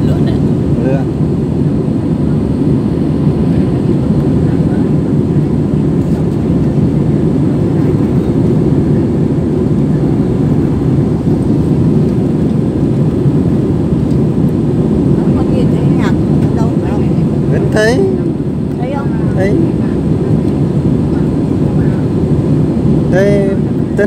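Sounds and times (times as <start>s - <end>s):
airliner cabin engine hum: 0.0s - 24.0s.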